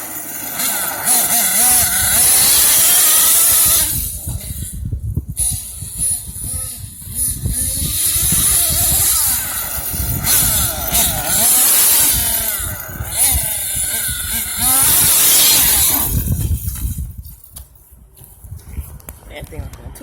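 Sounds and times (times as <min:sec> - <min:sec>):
rc truck engine revving: 0:00.0 - 0:17.1.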